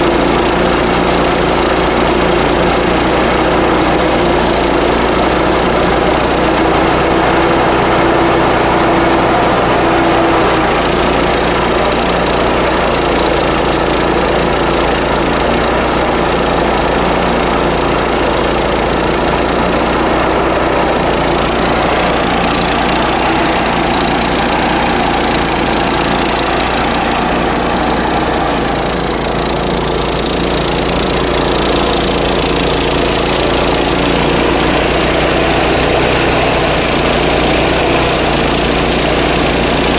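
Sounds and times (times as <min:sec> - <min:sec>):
thresher engine drone: 0:00.0 - 0:39.9
dense whirring: 0:05.8 - 0:38.5.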